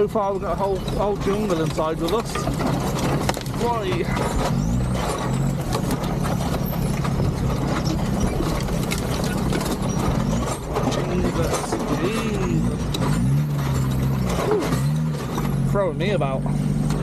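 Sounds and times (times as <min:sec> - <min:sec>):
diesel engine running at low speed: 0:00.0 - 0:17.0
rattles and knocks from loose gear: 0:00.0 - 0:17.0.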